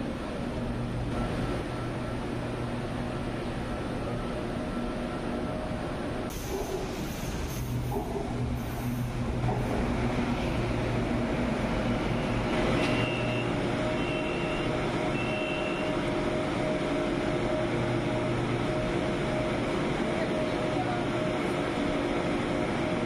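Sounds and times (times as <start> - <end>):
train mechanical hum: 0.0 - 23.0.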